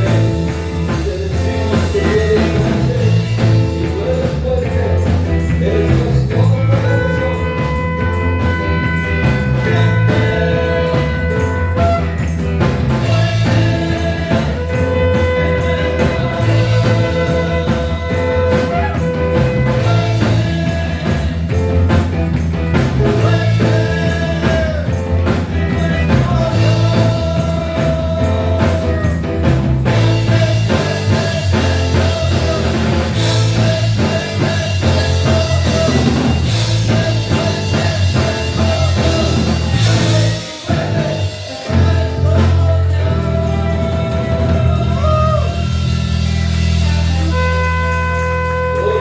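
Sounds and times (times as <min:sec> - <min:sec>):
band playing worship song: 0:00.0 - 0:49.0.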